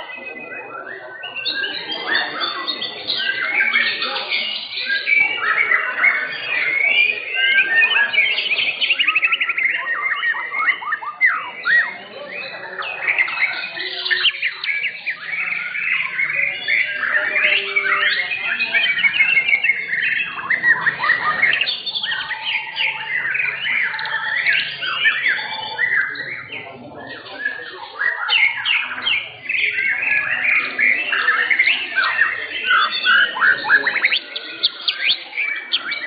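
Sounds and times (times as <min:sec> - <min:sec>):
songbirds singing: 0:00.0 - 0:36.0.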